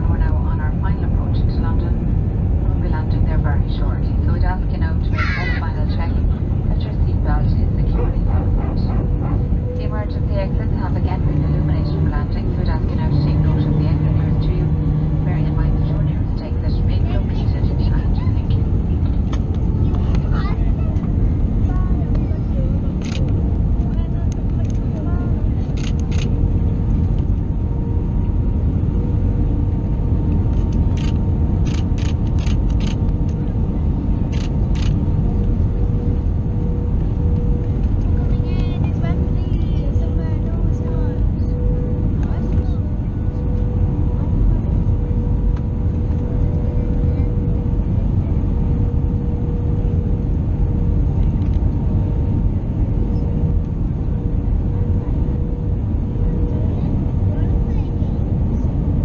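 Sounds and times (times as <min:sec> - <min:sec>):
airliner cabin rumble: 0:00.0 - 0:59.0
constant hum tone: 0:00.0 - 0:59.0.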